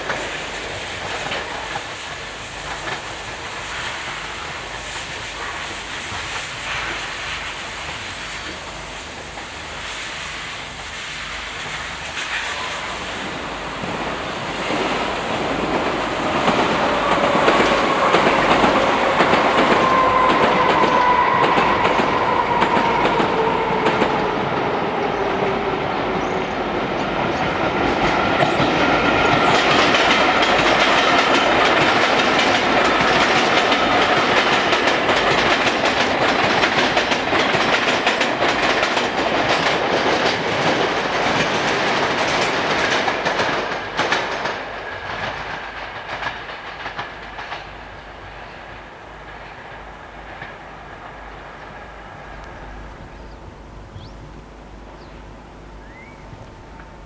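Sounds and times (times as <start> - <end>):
train wheels clicking over rail joints: 0.0 - 53.2.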